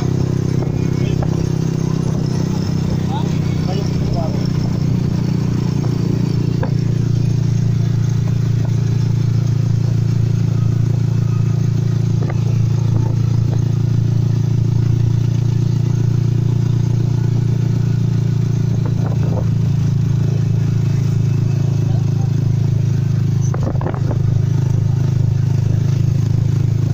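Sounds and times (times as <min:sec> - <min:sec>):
vehicle engine drone: 0:00.0 - 0:26.9.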